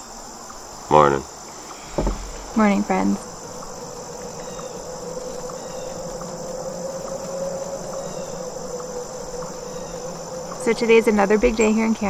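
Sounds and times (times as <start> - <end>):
insects trilling: 0.0 - 12.0
low hum: 1.5 - 12.0.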